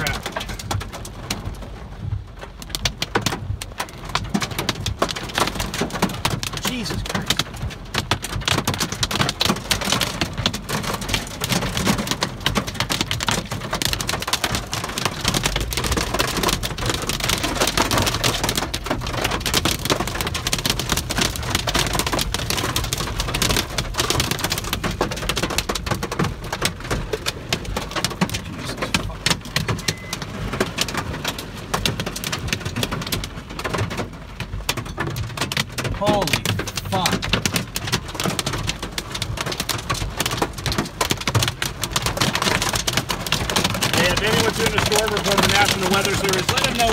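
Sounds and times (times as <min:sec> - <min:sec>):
hail and rain on car roof: 0:00.0 - 0:46.9.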